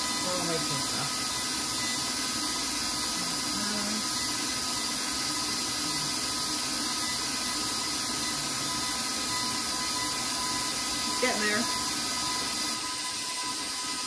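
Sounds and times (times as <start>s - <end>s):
stand mixer motor whining: 0.0s - 14.0s.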